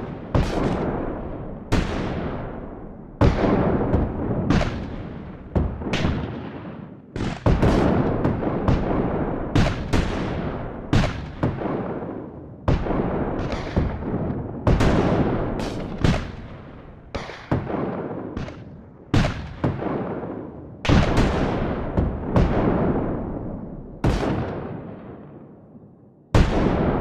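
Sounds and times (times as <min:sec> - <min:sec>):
cannon and musket fire with echo: 0:00.0 - 0:27.0.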